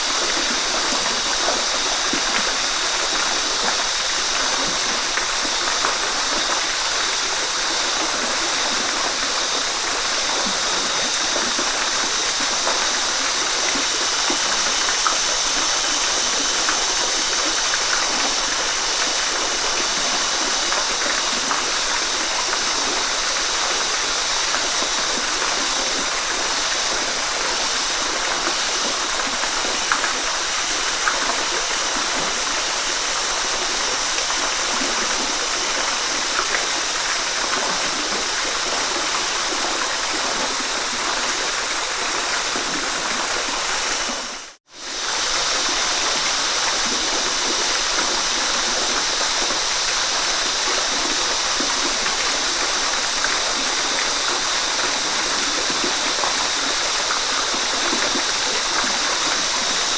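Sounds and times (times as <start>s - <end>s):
waterfall pouring and splashing: 0.0s - 59.9s.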